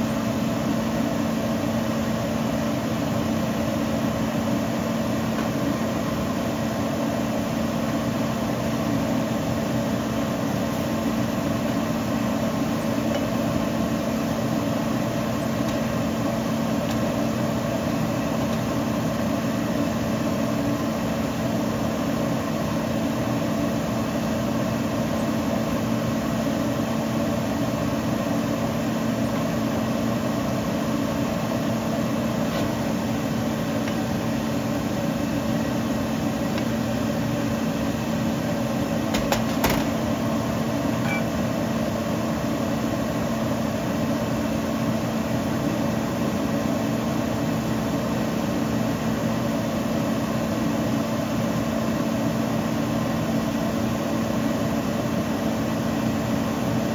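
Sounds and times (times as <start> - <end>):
machine hum: 0.0 - 45.7.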